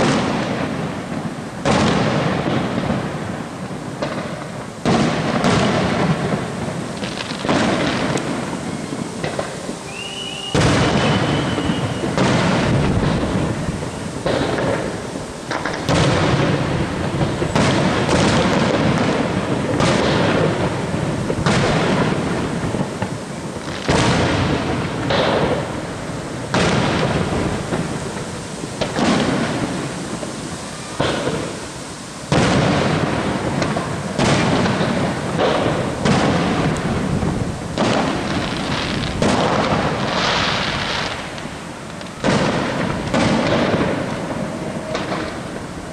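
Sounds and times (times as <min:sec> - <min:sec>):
high firework whistle: 0:00.0 - 0:03.5, 0:04.4 - 0:45.9
fireworks booming: 0:00.0 - 0:45.9.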